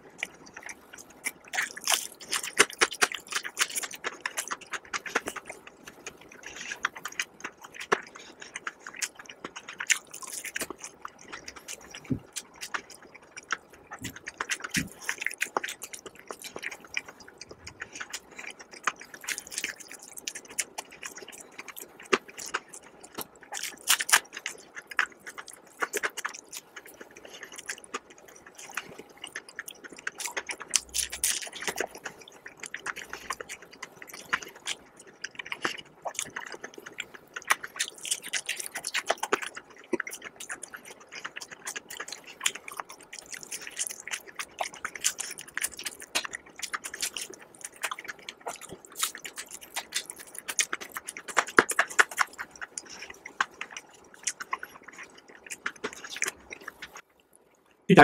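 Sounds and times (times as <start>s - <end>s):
crunching of crispy chicken: 0.0s - 58.0s.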